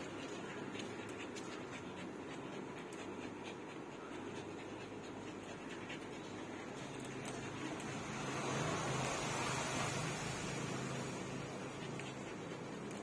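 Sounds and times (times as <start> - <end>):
quiet dog sounds: 0.0 - 13.0.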